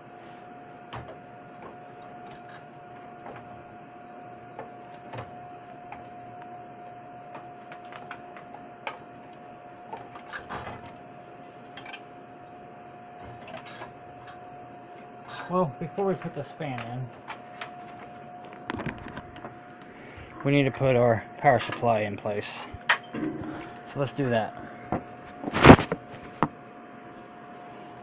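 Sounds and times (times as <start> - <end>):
high-pitched hum: 1.0 - 26.5.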